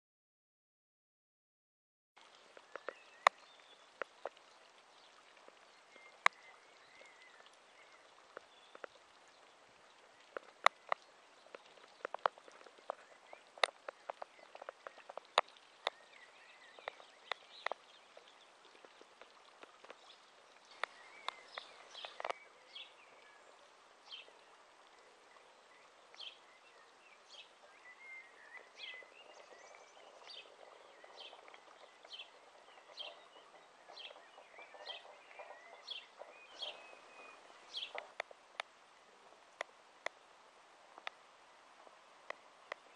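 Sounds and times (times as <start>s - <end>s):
birds chirping: 2.2s - 42.9s
faint steady hiss: 2.2s - 42.9s.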